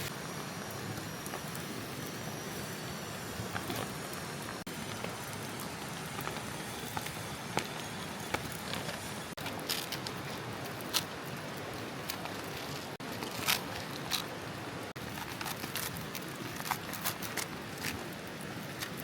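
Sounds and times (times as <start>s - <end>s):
rain hiss: 0.0s - 19.0s.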